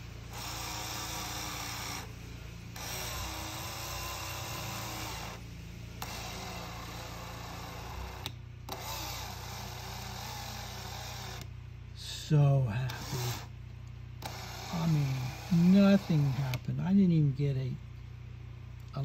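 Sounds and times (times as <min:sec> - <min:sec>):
electric side-mirror motor running: 0:00.0 - 0:11.6, 0:12.8 - 0:17.2.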